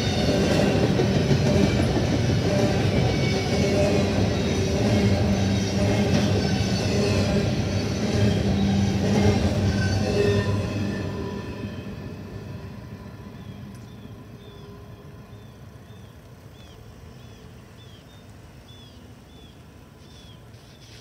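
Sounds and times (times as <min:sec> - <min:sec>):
low rumble of train: 0:00.0 - 0:21.0.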